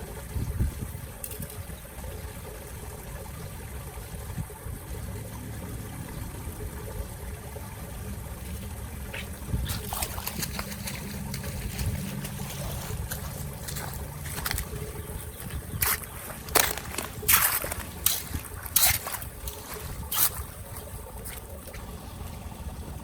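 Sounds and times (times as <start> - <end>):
water trickling and flowing: 0.0 - 23.0.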